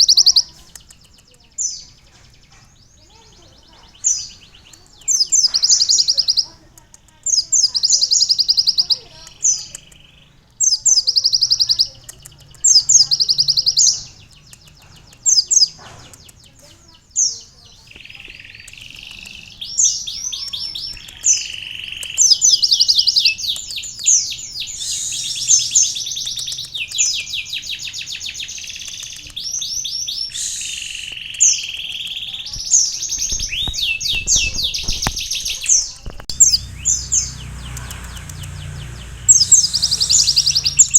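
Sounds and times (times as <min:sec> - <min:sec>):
bird singing trilled phrases: 0:00.0 - 0:40.9.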